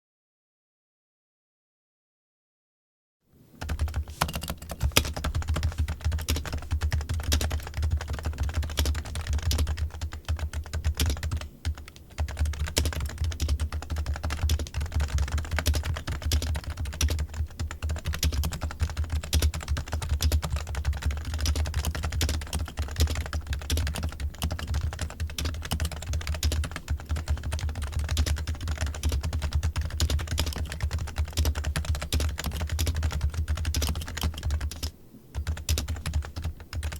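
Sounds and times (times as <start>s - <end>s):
steady low hum: 3.4s - 36.9s
computer keyboard typing: 3.6s - 36.9s.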